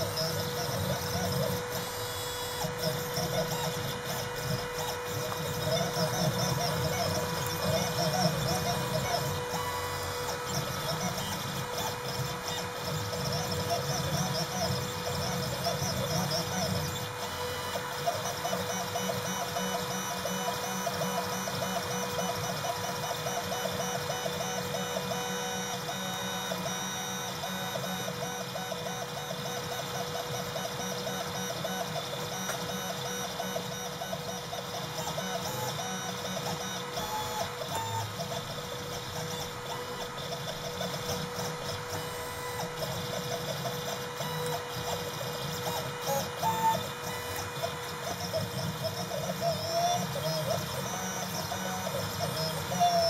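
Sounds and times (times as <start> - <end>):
stepper motors whining: 0.0 - 53.0.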